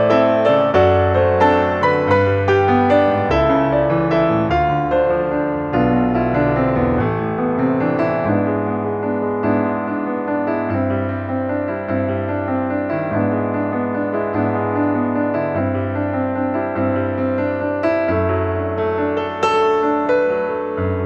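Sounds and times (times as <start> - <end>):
piano playing slow melody: 0.0 - 21.0.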